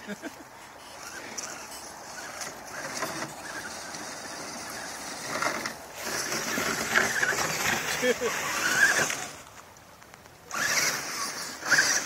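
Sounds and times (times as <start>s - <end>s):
electric motor and gears whirring: 0.8s - 9.6s, 10.5s - 12.0s.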